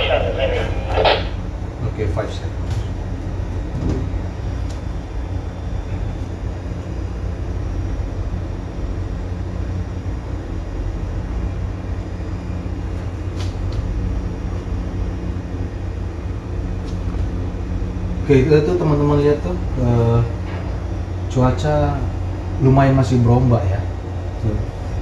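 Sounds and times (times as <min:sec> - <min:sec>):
ship engine drone: 0:00.0 - 0:25.0.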